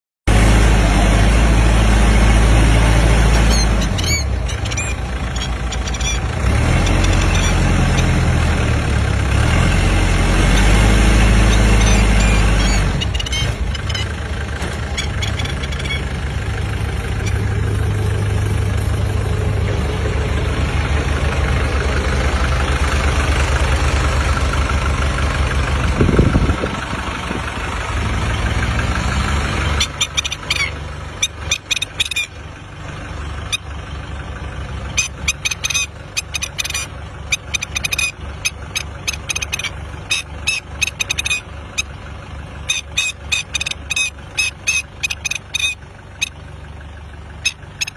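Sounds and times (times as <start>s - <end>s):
engine running low throb: 0.3s - 47.9s.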